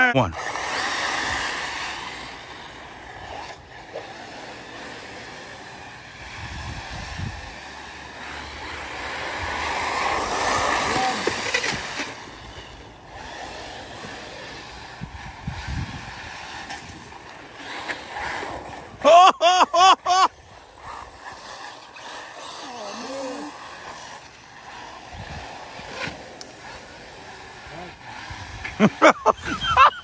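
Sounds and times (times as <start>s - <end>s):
electric motors whining: 0.0s - 30.0s
tyres on dirt: 0.0s - 30.0s.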